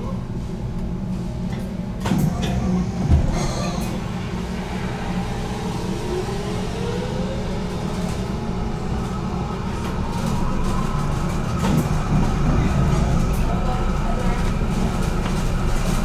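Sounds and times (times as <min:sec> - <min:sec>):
tram clatter: 0:00.0 - 0:16.0
tram wheel and rail rumble: 0:00.0 - 0:16.0.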